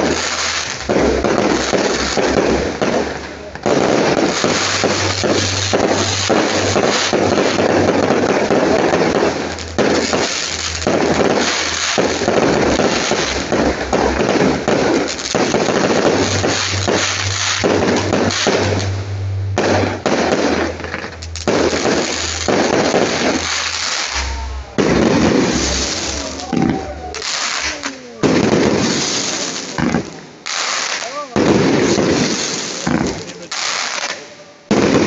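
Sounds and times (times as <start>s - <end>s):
fireworks bangs and crackling: 0.0s - 35.0s.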